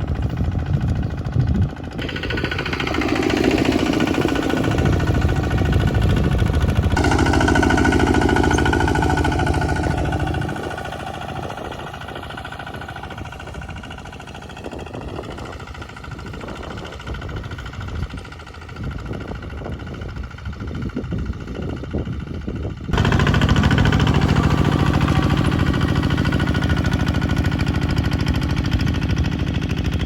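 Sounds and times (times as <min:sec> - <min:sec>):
bulldozer engine running: 0:00.0 - 0:30.0.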